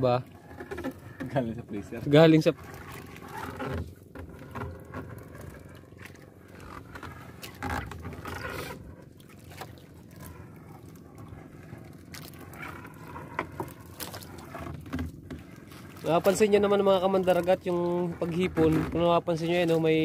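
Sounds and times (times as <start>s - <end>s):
wet net rustling and scraping: 0.3s - 20.0s.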